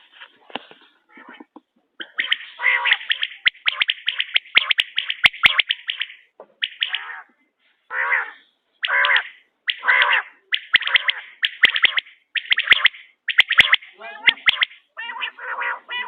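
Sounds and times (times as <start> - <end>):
quail calling: 1.1 - 16.0.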